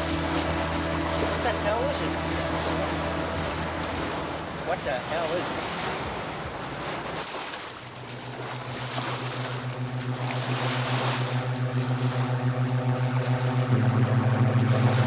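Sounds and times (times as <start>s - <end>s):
low pulsing synthesizer drone: 0.0s - 15.0s
water noise: 0.0s - 15.0s.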